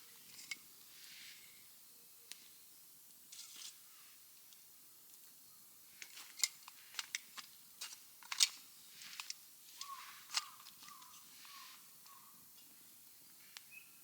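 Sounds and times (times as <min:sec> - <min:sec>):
wood fire crackling in stove: 0:00.0 - 0:13.7.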